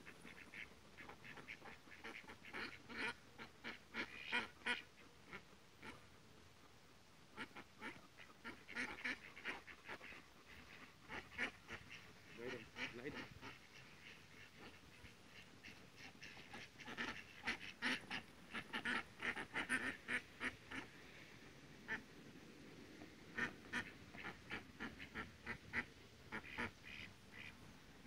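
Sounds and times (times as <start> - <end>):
ducks quacking: 0.0 - 6.1, 7.3 - 22.1, 23.3 - 27.7.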